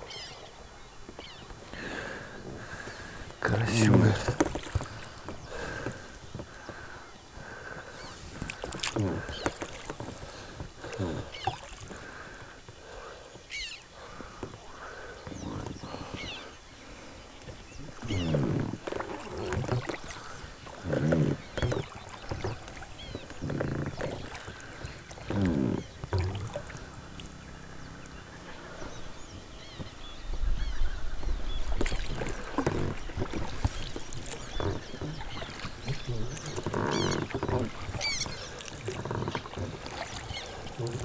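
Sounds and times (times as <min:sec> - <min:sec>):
frogs croaking: 0:00.0 - 0:41.0
small birds chirping: 0:00.0 - 0:41.0.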